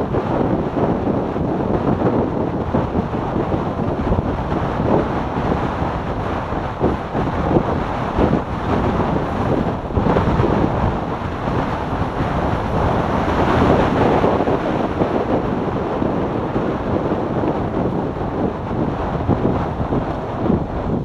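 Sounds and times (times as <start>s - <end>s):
motorcycle riding noise: 0.0s - 21.0s
wind buffeting microphone: 0.0s - 21.0s.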